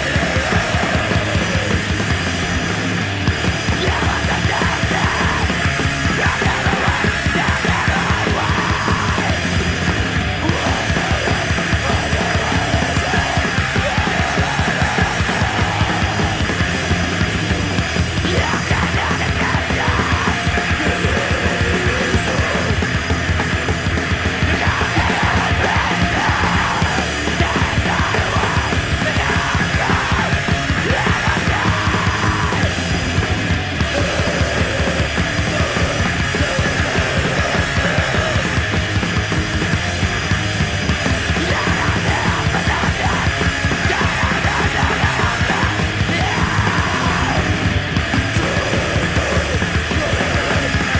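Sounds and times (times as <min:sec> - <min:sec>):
shouted vocals: 0:00.0 - 0:02.7, 0:03.6 - 0:50.9
heavy rock band music: 0:00.0 - 0:50.9.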